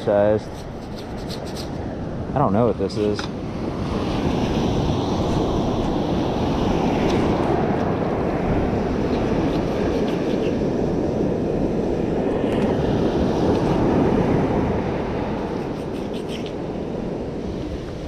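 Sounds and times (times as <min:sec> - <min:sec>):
storm wind buffeting microphone: 0:00.0 - 0:18.0
surf washing up beach: 0:00.0 - 0:18.0.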